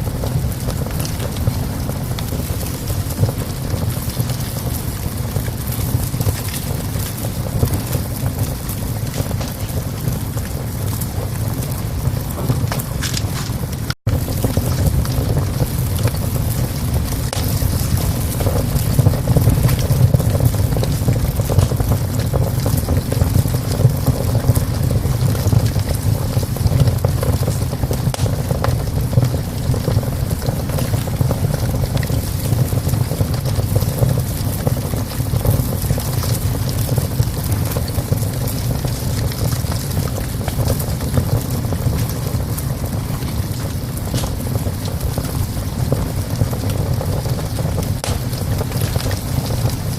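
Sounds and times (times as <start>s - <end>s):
wood fire crackling in a stove: 0.0s - 49.9s.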